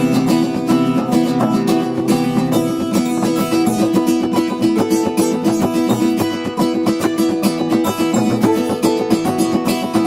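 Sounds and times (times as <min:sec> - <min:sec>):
acoustic guitars playing: 0:00.0 - 0:10.0.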